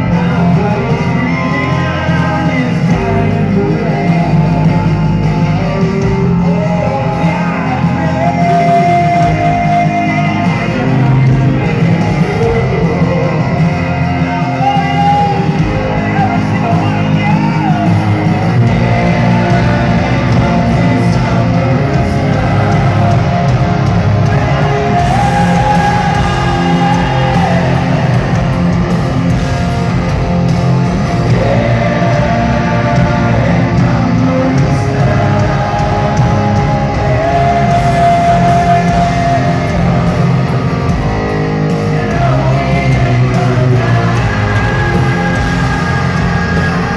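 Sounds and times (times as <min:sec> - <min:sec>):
live hard rock band: 0:00.0 - 0:46.9
singer holding long notes: 0:00.0 - 0:46.9.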